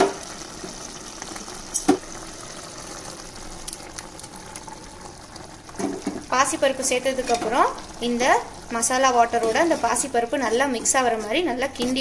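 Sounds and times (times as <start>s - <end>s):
pot simmering with bubbling hiss: 0.0s - 12.0s.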